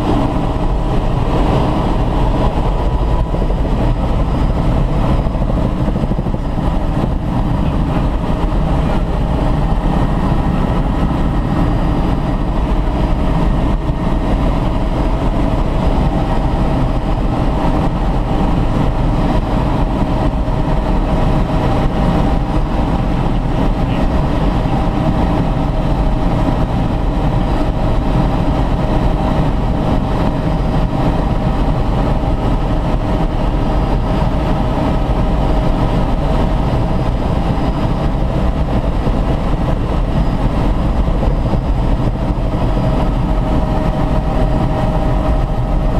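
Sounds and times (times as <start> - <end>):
faint steady whine: 0.0 - 45.9
helicopter engine and rotor noise: 0.0 - 45.9.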